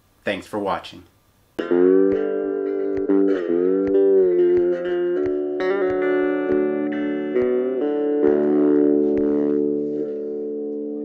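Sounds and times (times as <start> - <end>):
ringing guitar chords: 1.6 - 11.0.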